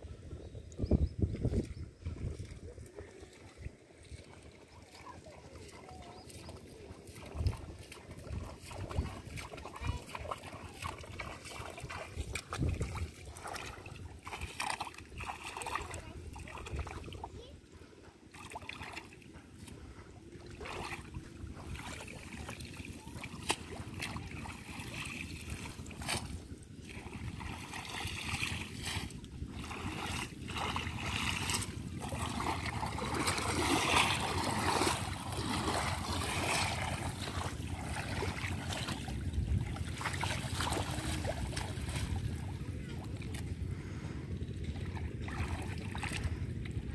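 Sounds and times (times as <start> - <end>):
shallow water splashing: 1.4 - 46.9.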